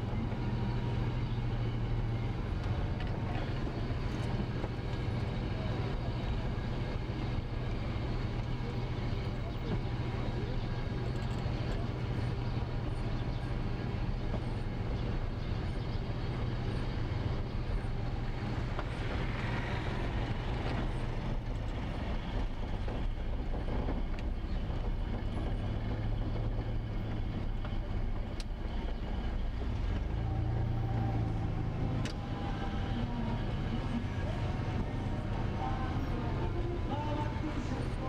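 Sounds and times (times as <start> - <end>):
car engine low rumble: 0.0 - 38.0.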